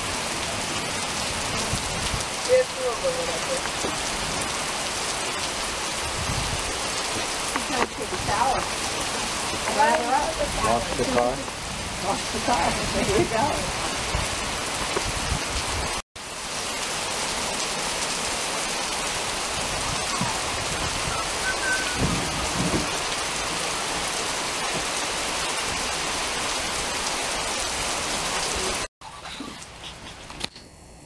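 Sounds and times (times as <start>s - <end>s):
steady rain falling: 0.0s - 30.5s.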